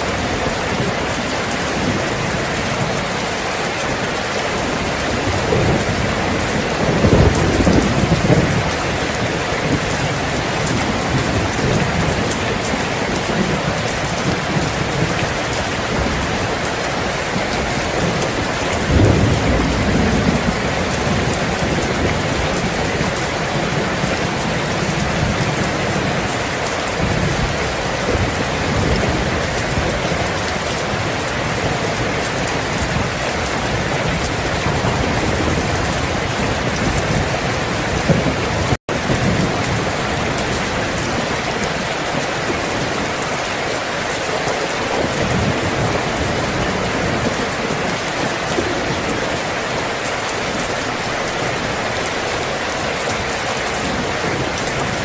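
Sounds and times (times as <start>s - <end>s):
distant thunder rumbling: 0.0s - 55.0s
heavy rain falling: 0.0s - 55.0s.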